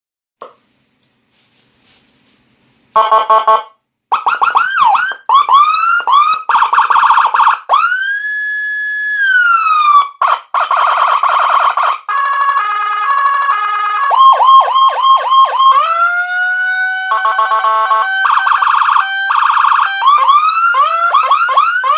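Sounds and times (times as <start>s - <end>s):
electronic siren: 3.0s - 21.9s.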